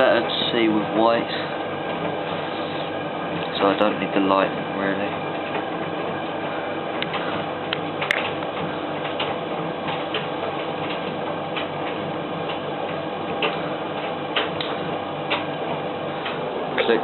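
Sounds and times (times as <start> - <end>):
tumble dryer drum rumbling: 0.0 - 17.0.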